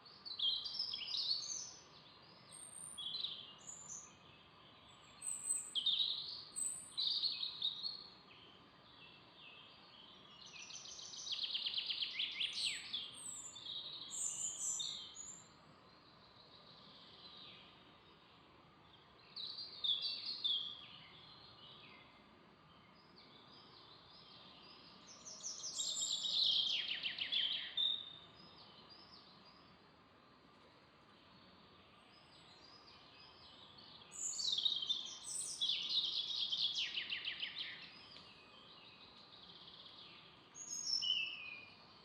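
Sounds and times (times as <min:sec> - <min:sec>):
faint steady hiss: 0:00.0 - 0:42.0
songbirds singing with trills: 0:00.0 - 0:42.0.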